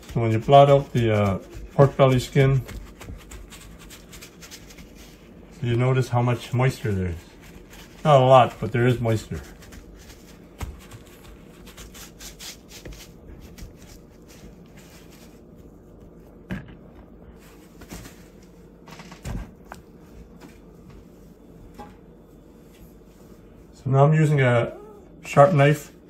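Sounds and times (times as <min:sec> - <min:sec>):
paper towel rustling: 0:00.0 - 0:16.4, 0:17.2 - 0:24.4
soft handling noises: 0:00.0 - 0:23.8.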